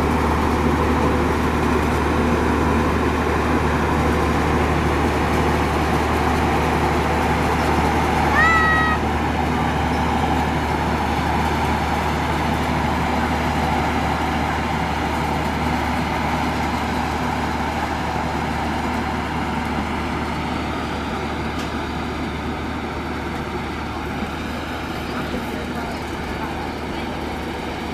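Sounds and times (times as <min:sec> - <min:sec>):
train rumbling along track: 0:00.0 - 0:27.9.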